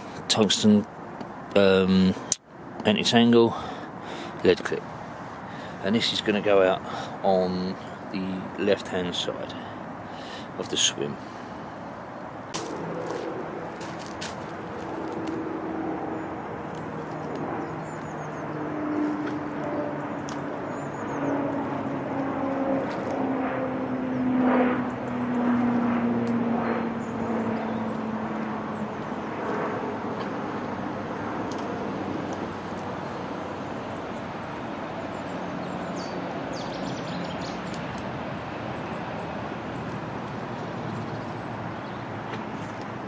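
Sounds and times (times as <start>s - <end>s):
traffic noise: 0.0s - 43.0s
passing engine drone: 3.9s - 42.7s.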